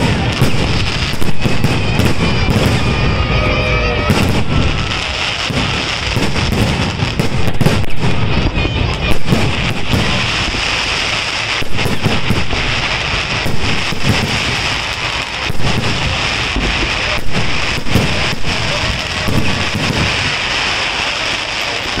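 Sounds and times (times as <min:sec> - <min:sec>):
fireworks crackling and hissing: 0:00.0 - 0:22.0.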